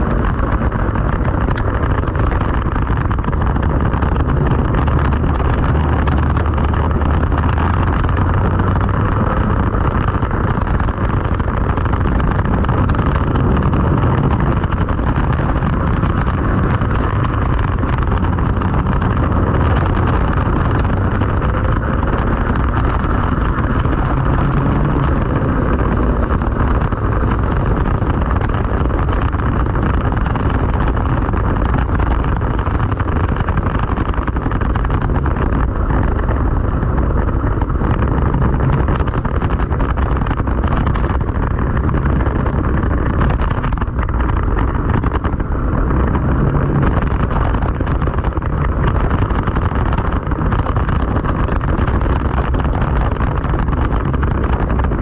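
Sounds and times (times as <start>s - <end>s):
kart engine running: 0.0s - 55.0s
wind noise on microphone: 0.0s - 55.0s.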